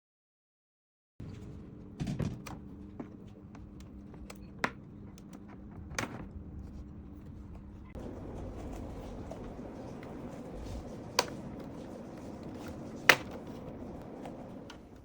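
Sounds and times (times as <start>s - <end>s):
steady low hum: 1.2s - 15.0s.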